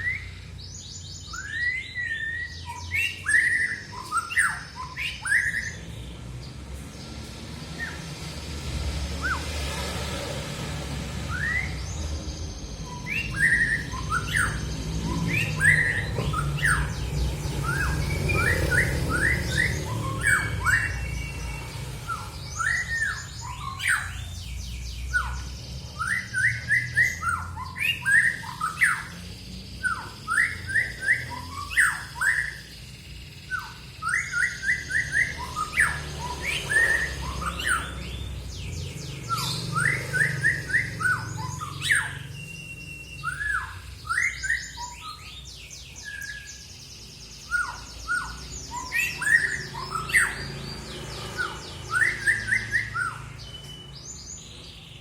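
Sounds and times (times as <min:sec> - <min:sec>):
songbird chirping and trilling: 0:00.0 - 0:55.0.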